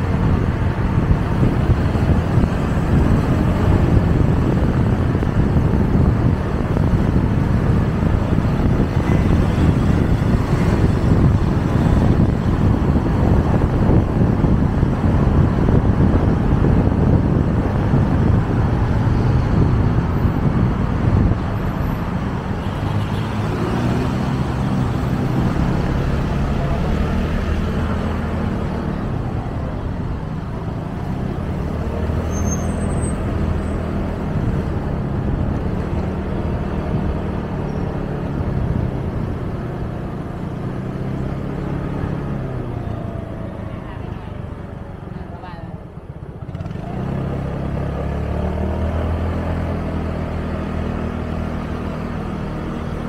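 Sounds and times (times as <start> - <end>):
traffic: 0.0 - 53.0
wind and road rush: 0.0 - 53.0.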